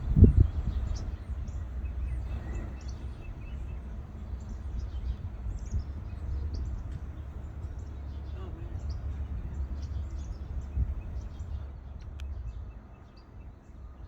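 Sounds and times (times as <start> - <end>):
low outdoor rumble: 0.0 - 14.0
small birds chirping: 0.0 - 14.0.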